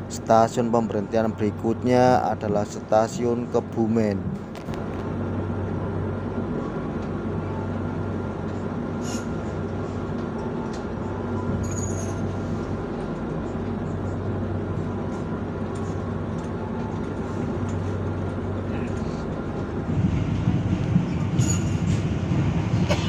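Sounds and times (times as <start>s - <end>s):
train low hum and rumble: 0.0s - 23.0s.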